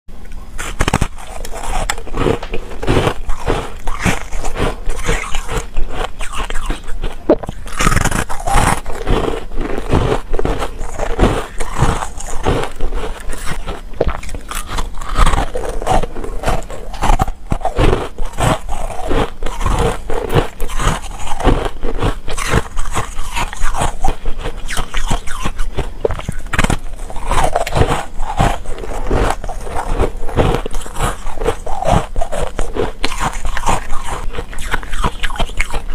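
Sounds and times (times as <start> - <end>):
crunching ice while chewing: 0.3 - 35.9.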